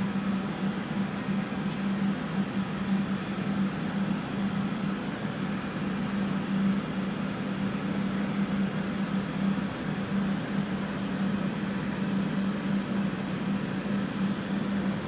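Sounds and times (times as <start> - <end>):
electric fans running: 0.0 - 15.0.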